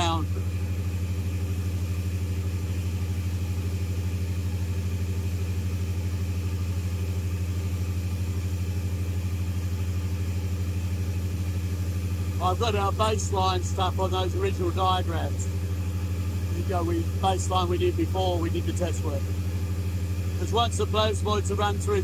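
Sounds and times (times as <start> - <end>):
gas engine generator humming: 0.0 - 22.0.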